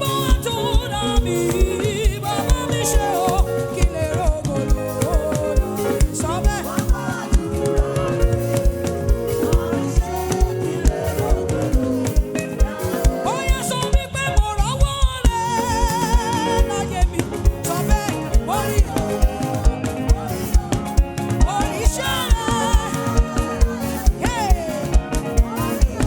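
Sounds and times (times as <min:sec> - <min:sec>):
fast drum beat: 0:00.0 - 0:26.0
gospel band music: 0:00.0 - 0:26.0
people singing: 0:00.0 - 0:26.0.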